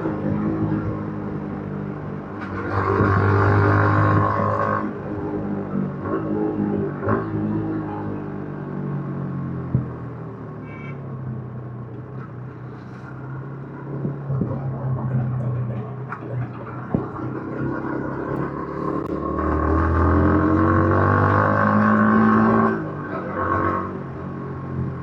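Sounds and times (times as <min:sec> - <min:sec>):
motorcycle engine revving: 0:00.0 - 0:10.4, 0:13.0 - 0:25.0.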